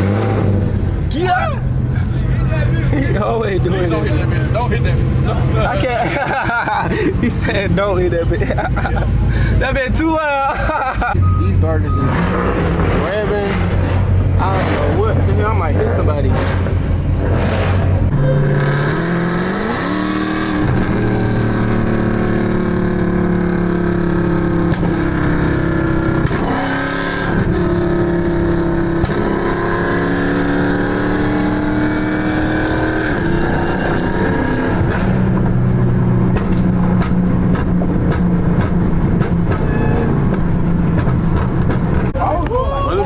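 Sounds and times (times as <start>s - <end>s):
car engine accelerating: 0.0s - 42.6s.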